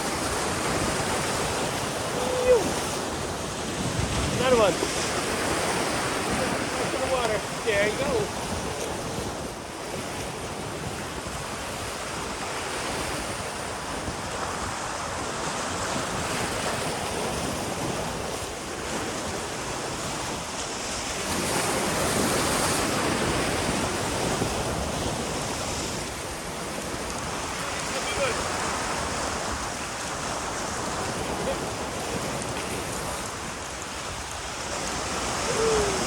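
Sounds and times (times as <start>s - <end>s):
waves breaking against jetty: 0.0s - 36.0s
wind on microphone: 0.0s - 36.0s.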